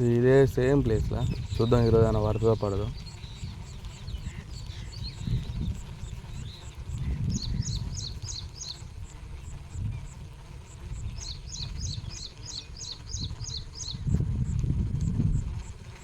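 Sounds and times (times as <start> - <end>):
bird chirping: 0.8 - 14.6.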